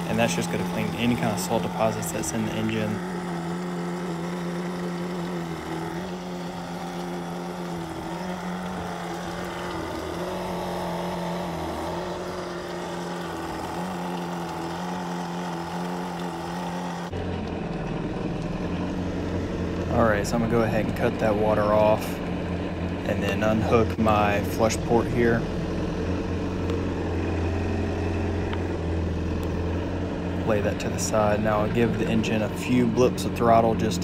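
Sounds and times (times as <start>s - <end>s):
water running out of hull: 0.0s - 34.0s
watercraft engine idling: 0.0s - 34.0s.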